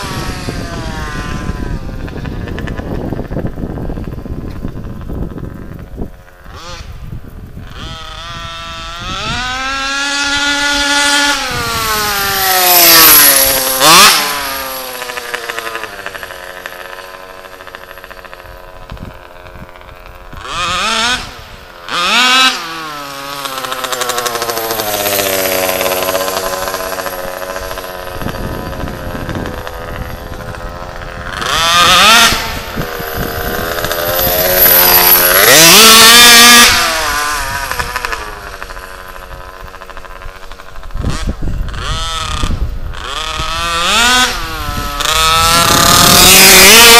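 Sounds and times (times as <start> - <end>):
rc car engine revving past: 0.0 - 46.9.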